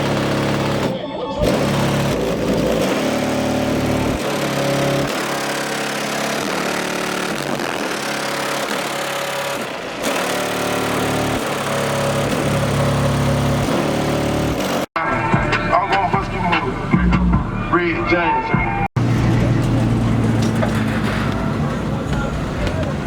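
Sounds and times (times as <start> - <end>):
vehicle engine running: 0.0 - 17.9, 19.0 - 23.0.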